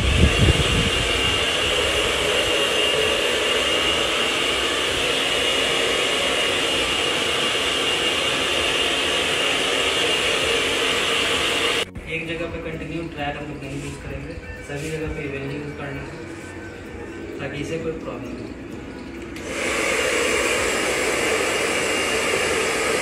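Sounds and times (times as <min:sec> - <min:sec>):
hair dryer running: 0:00.0 - 0:12.0, 0:14.8 - 0:23.0.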